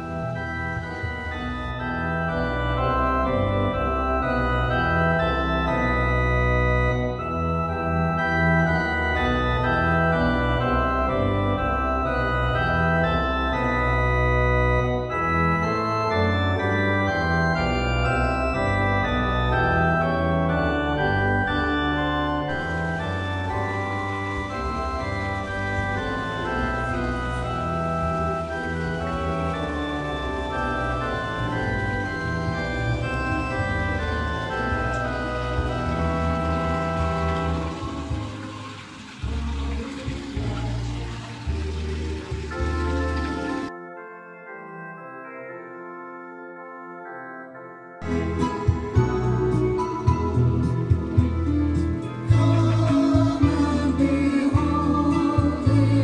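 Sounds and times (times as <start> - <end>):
organ music: 0.0 - 56.0.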